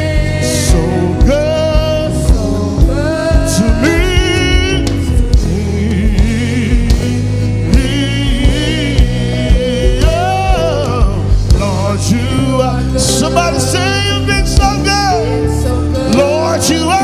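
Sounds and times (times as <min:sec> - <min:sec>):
gospel band playing: 0:00.0 - 0:17.0
person singing: 0:00.0 - 0:17.0.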